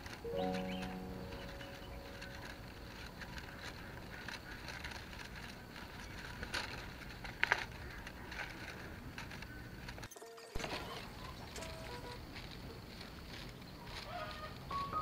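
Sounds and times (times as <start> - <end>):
bamboo strips clicking and rustling: 0.0 - 15.0.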